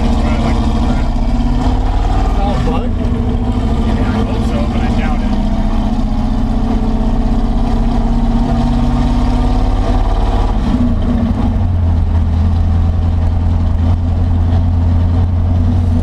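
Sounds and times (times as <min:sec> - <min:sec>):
misfiring engine running rough: 0:00.0 - 0:16.0.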